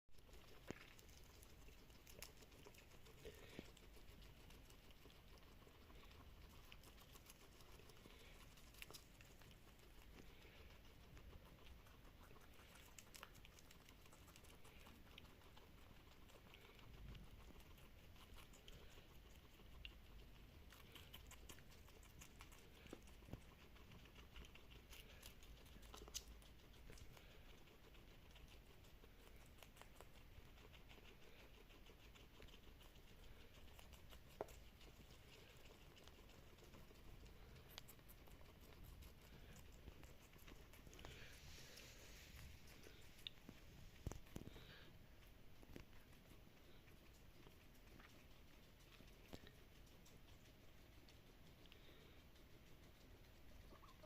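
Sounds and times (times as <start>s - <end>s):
guinea pigs nibbling vegetables: 0.1s - 54.0s.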